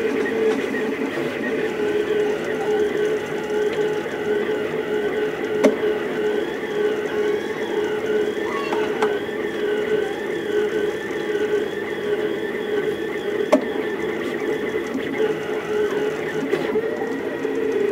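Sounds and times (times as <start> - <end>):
printer stepper motors whining: 0.0 - 17.9.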